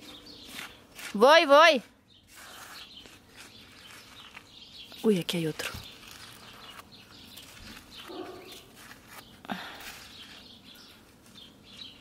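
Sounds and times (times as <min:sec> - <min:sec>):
rustling of soil and pine needles: 0:00.0 - 0:12.0
small birds chirping: 0:00.0 - 0:12.0.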